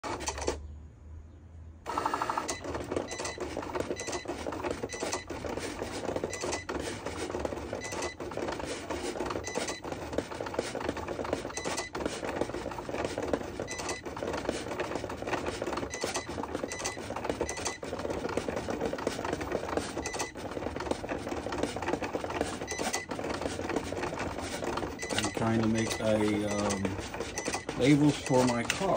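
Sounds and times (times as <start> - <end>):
cutting machine motors whirring: 0.0 - 0.6, 1.9 - 28.9.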